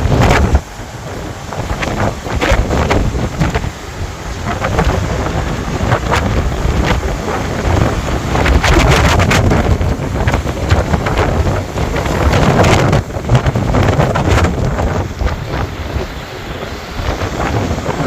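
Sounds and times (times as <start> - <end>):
gusty wind buffeting microphone: 0.0 - 18.0.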